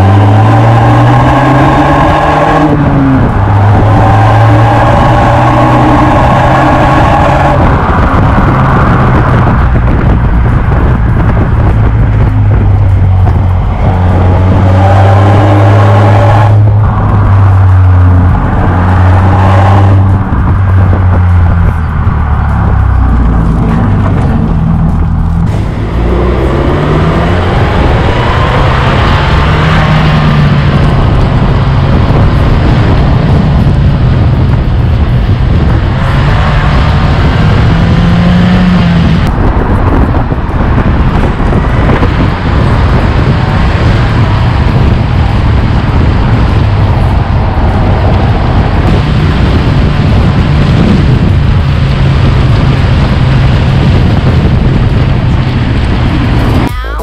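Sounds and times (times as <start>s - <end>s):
car exhaust revving: 0.0s - 57.0s
road and wind rush: 0.0s - 57.0s.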